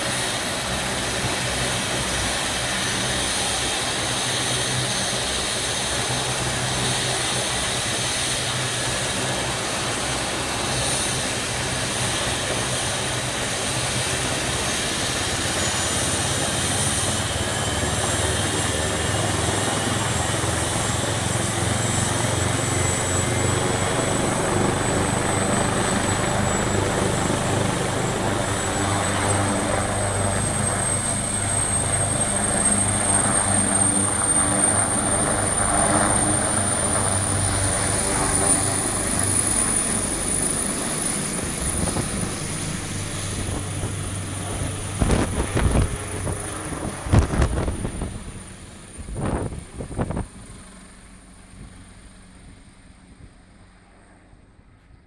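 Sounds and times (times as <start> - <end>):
helicopter rotor beat: 0.0 - 54.6
helicopter turbine whine: 0.0 - 55.0.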